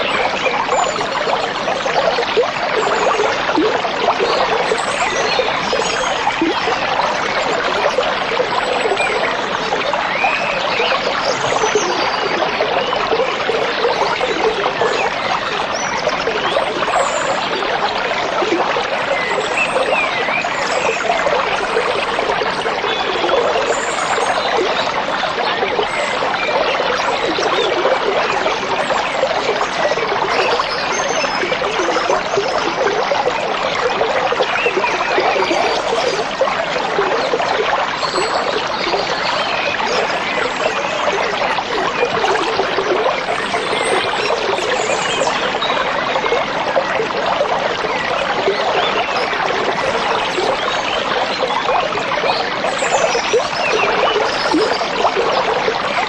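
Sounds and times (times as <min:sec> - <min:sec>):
stream trickling and burbling: 0:00.0 - 0:56.0.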